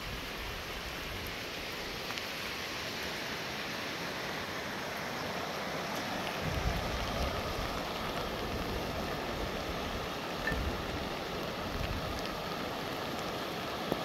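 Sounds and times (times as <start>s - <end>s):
falling rain: 0.0s - 14.0s
river rushing: 0.0s - 14.0s.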